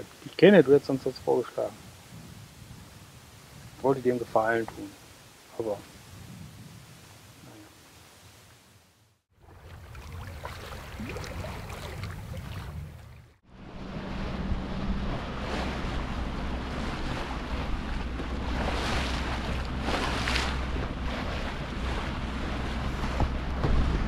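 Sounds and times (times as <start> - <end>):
water and waves rushing: 0.0 - 8.4, 9.3 - 24.0
wind buffeting microphone: 0.9 - 4.9, 5.7 - 7.5, 9.7 - 24.0.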